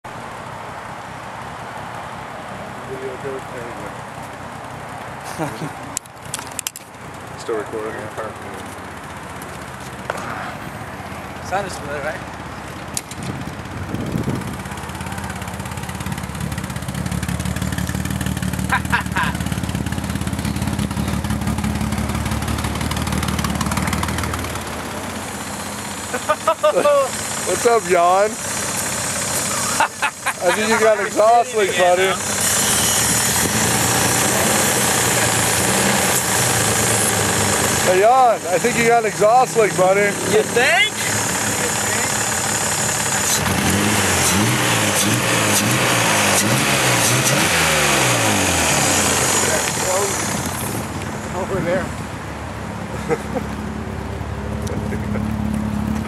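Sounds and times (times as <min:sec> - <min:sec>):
car engine idling: 0:00.1 - 0:56.0.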